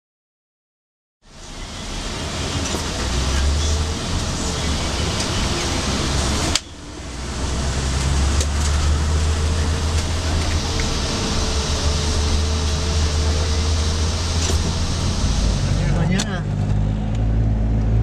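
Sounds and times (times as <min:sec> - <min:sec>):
engine and road rumble: 0:01.2 - 0:18.0.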